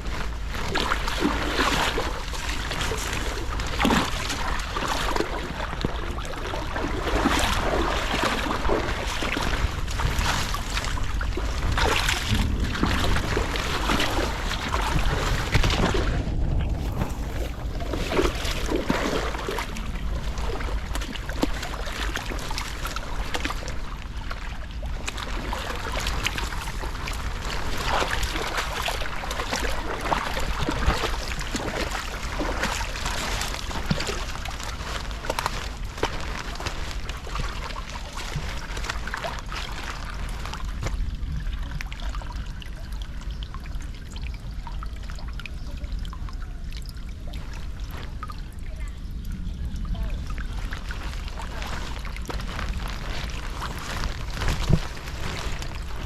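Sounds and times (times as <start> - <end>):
small splashes and drips: 0.0 - 56.0
water pouring into a drain: 0.0 - 56.0.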